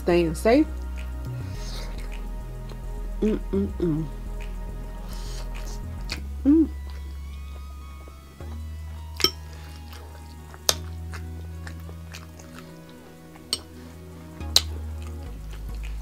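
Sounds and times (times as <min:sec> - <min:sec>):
background music with bass: 0:00.0 - 0:16.0.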